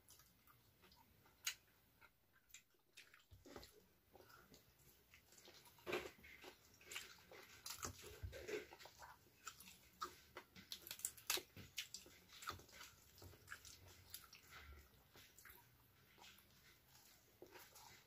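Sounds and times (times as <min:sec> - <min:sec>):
crisp chewing crunches: 0:00.0 - 0:18.0.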